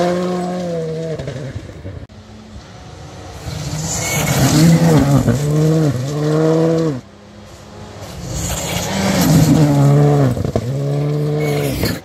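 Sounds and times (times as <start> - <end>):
rally car engine at high revs: 0.0 - 12.0
rally car passing at high revs: 0.0 - 12.0.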